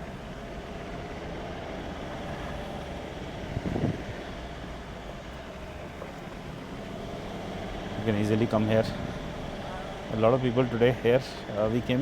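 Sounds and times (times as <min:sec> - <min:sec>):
suv engine running: 0:00.0 - 0:12.0.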